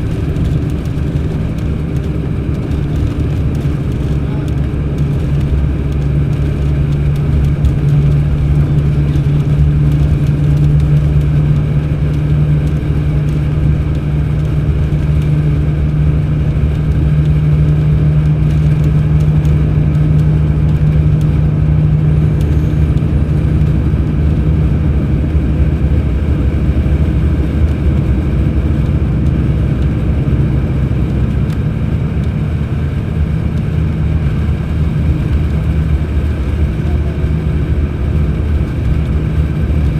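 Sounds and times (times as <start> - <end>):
coach diesel engine running: 0.0 - 39.9.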